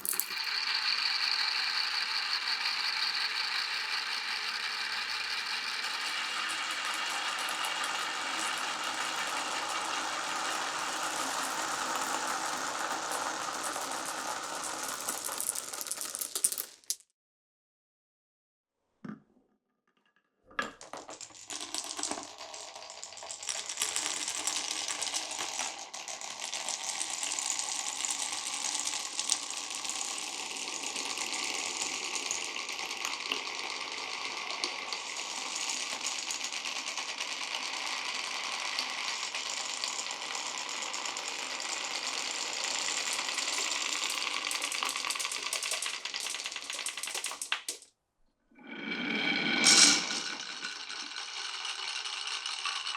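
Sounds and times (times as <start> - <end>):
marbles rolling through wooden run: 0.0 - 17.0, 20.6 - 47.9, 48.6 - 52.9.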